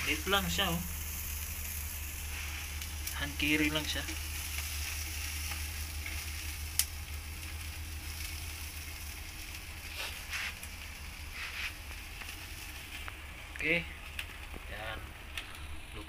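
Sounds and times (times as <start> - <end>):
meat sizzling on charcoal grill: 0.0 - 16.0.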